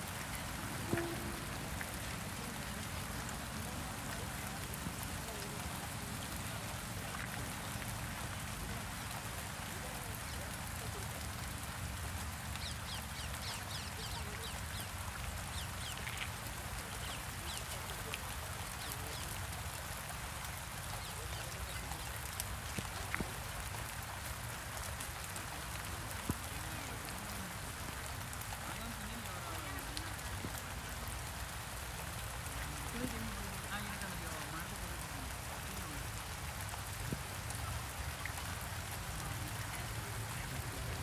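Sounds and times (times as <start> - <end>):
light rain falling: 0.0 - 41.0.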